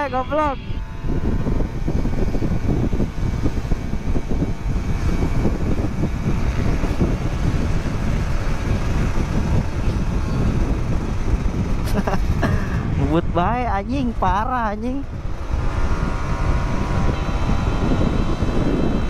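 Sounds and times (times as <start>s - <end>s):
motorcycle engine and road noise: 0.0s - 19.0s
wind buffeting microphone: 0.0s - 19.0s.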